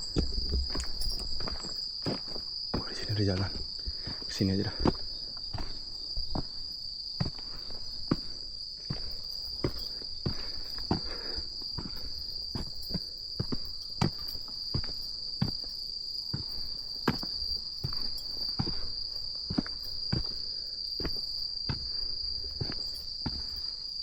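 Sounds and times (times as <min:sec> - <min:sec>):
footsteps walking: 0:00.0 - 0:23.8
crickets trilling: 0:00.0 - 0:24.0.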